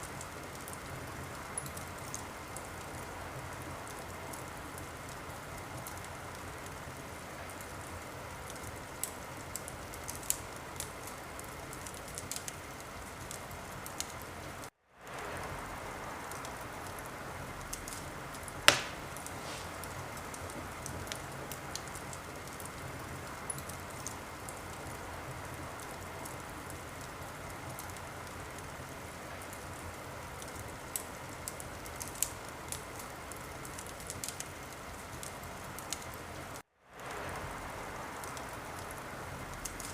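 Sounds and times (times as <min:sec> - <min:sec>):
wood fire crackling and popping: 0:00.0 - 0:14.7, 0:16.2 - 0:37.1, 0:38.2 - 0:39.9.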